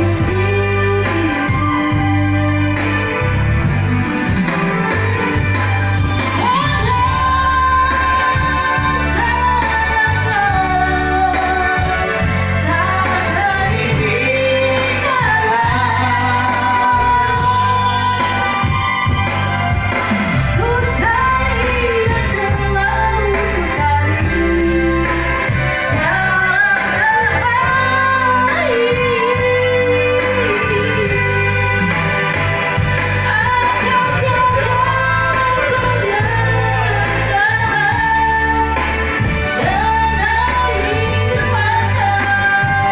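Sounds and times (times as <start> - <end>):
woman singing: 0.0 - 3.3, 6.1 - 19.2, 20.5 - 32.2, 33.0 - 42.9
loud backing music: 0.0 - 42.9.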